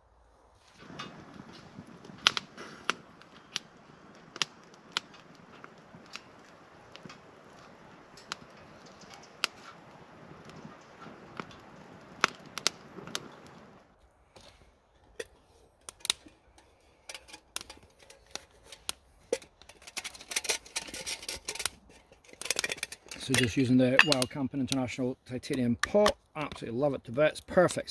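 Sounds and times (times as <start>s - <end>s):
wood fire crackling in a stove: 0.0s - 27.9s.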